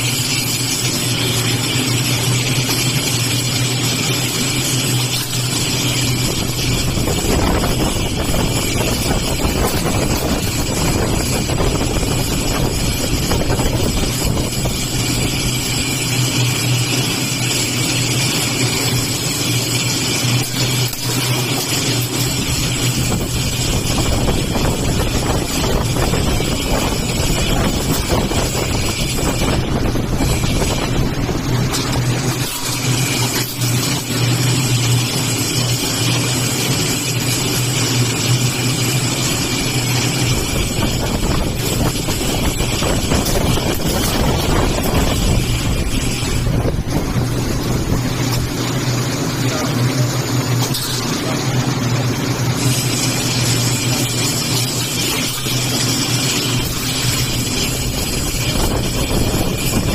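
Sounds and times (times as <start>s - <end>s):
machinery humming: 0.0s - 59.9s.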